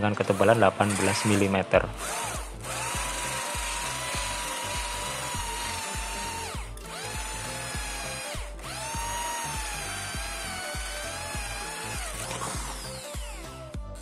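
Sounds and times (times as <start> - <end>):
power drill motor whine: 0.0 - 13.8
background music with steady beat: 0.0 - 14.0.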